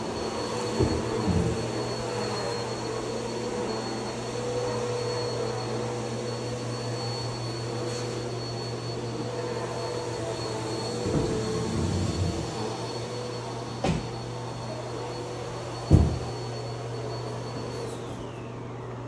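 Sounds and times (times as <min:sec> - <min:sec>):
electric motor drone: 0:00.0 - 0:19.0.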